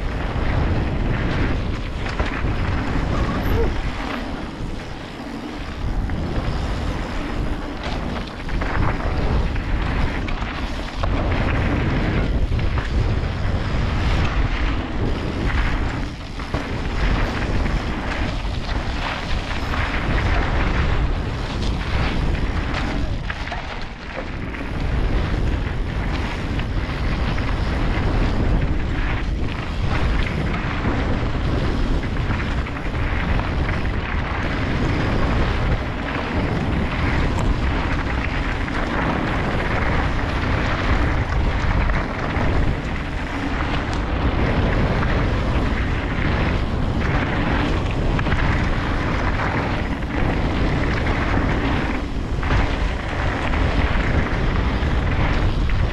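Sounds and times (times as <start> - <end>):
bike rattle: 0.0 - 55.9
bike tyres on gravel: 0.0 - 55.9
wind buffeting microphone: 0.0 - 55.9.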